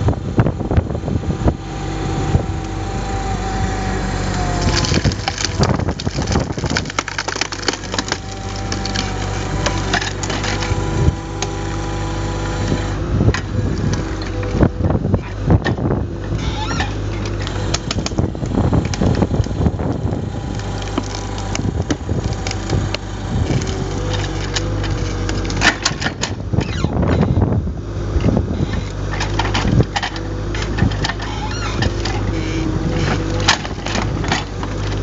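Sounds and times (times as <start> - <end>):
excavator engine running: 0.0 - 35.0
wood cracking and creaking: 2.6 - 11.8, 12.6 - 27.5, 28.2 - 35.0.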